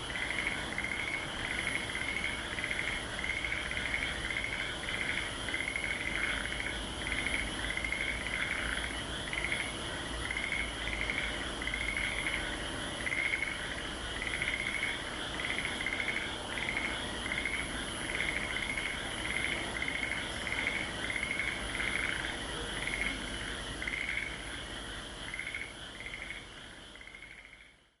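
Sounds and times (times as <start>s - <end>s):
frogs calling: 0.0s - 28.0s
high insect trill: 0.0s - 28.0s.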